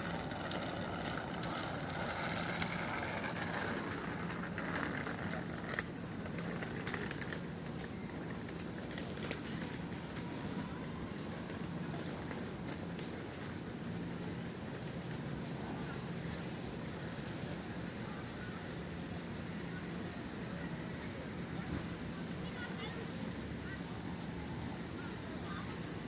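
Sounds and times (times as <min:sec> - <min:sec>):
distant traffic noise: 0:00.0 - 0:26.0.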